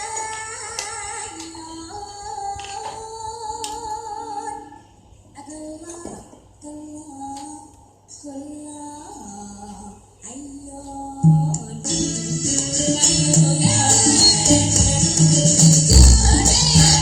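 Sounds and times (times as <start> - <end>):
woman singing song: 0.0 - 4.8, 5.4 - 17.0.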